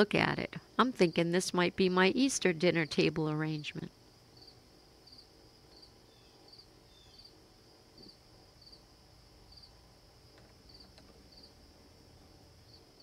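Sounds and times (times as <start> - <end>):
crickets chirping: 0.0 - 13.0
high insect drone: 0.0 - 13.0.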